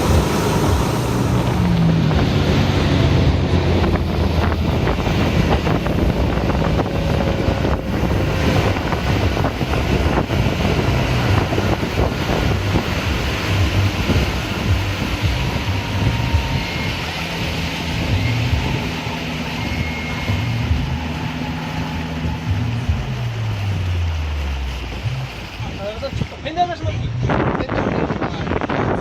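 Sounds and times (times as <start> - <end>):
boat engine running: 0.0 - 29.0
water splashing: 0.0 - 29.0
wind buffeting microphone: 0.0 - 29.0.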